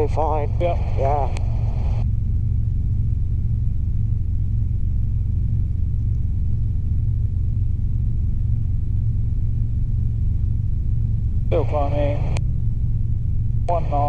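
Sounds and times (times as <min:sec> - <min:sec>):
faint constant whine: 0:00.0 - 0:14.0
helicopter engine and rotor rumble: 0:00.0 - 0:14.0.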